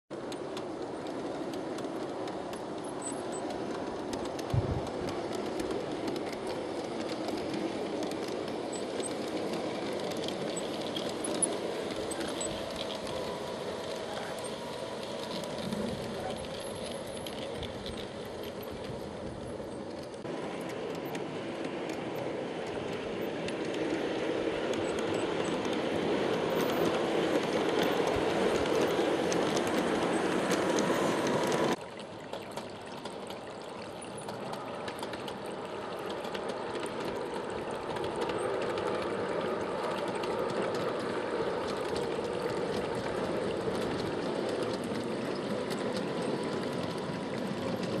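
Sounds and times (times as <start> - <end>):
model train rolling clatter: 0.1 - 48.0.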